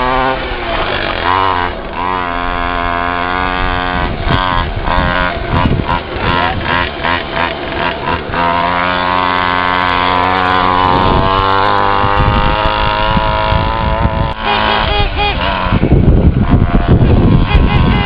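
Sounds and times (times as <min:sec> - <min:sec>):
small engine revving high: 0:00.0 - 0:18.0.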